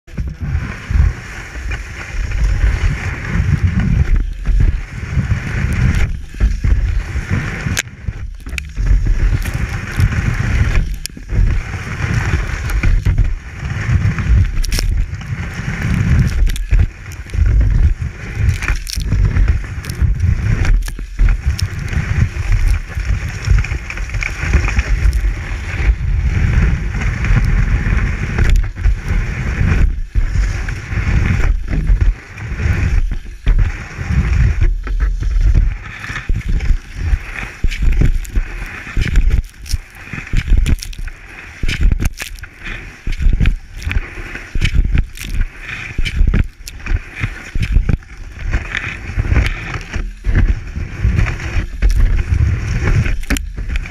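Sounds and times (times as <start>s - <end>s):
heavy rumble: 0.0s - 53.9s
ski scraping over packed snow: 0.1s - 53.9s.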